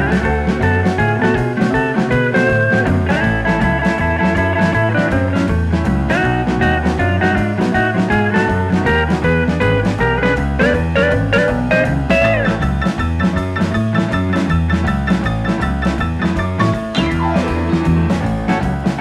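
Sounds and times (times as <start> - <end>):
blues rock music with guitar: 0.0 - 19.0.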